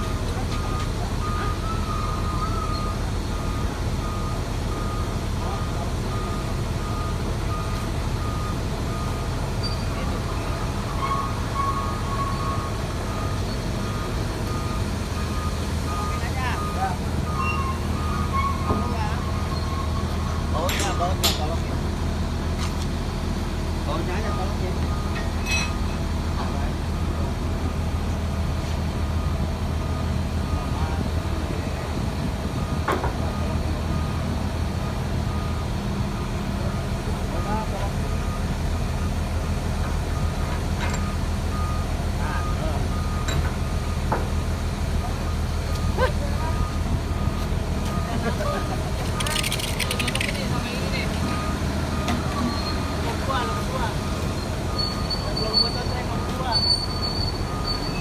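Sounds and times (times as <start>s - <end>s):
reversing alarm beeps: 0.0s - 21.1s, 23.9s - 25.9s, 26.6s - 31.3s, 32.0s - 58.0s
heavy diesel machinery droning: 0.0s - 58.0s.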